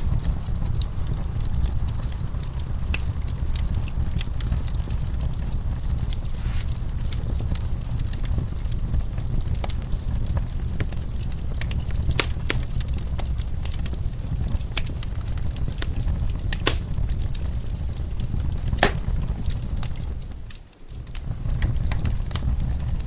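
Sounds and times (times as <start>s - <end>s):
wood fire crackling: 0.1s - 23.0s.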